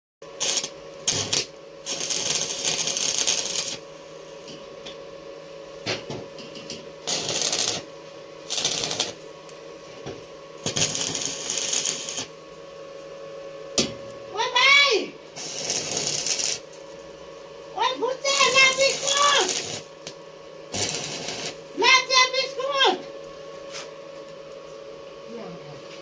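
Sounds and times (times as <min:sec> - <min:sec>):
arc welding crackling sizzle: 0:00.2 - 0:25.8
steady hum: 0:00.2 - 0:26.0.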